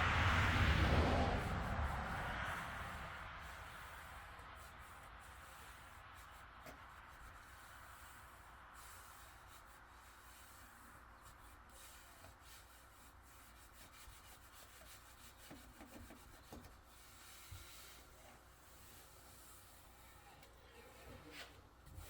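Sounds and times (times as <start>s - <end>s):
hand rubbing vinyl on glass: 1.0s - 22.0s.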